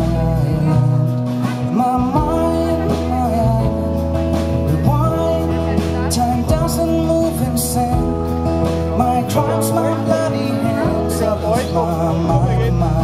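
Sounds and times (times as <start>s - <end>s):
acoustic guitar strumming: 0.0s - 13.0s
drums: 0.0s - 13.0s
electric bass: 0.0s - 13.0s
person singing: 0.0s - 13.0s.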